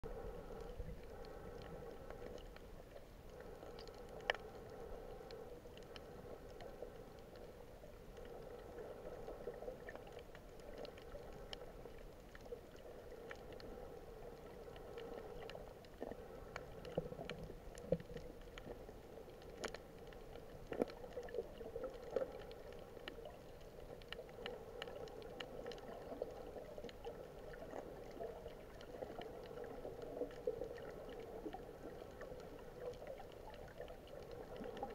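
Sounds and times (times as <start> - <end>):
faint underwater hum: 0.0 - 34.9
sharp clicks and crackles: 0.2 - 34.9.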